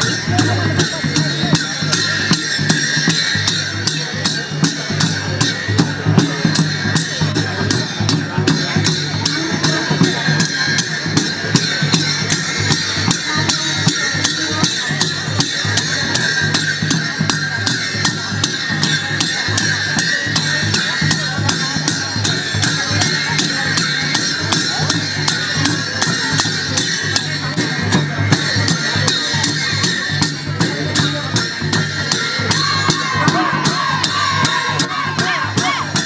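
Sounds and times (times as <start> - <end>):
dhol drums beating: 0.0 - 36.0
hand cymbals ringing: 0.0 - 36.0.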